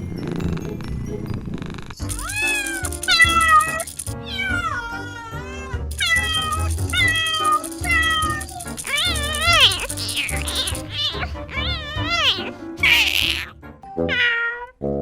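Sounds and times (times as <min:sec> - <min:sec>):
kitten mewing: 0:02.1 - 0:14.8.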